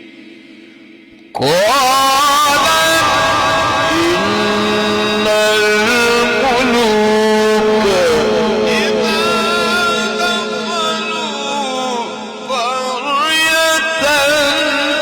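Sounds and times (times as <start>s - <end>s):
man chanting melodic recitation: 1.3s - 15.0s.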